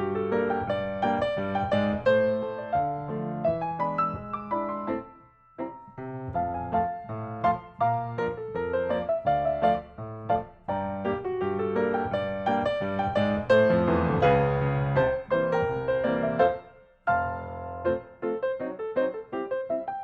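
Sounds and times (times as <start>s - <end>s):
piano melody with chords: 0.0s - 20.0s.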